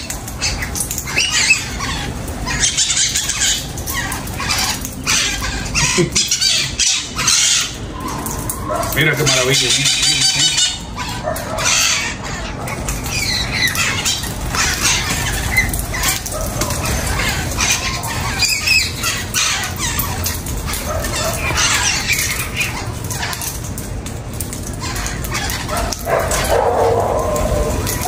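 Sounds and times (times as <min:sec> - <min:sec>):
parakeets squawking: 0:00.0 - 0:28.0.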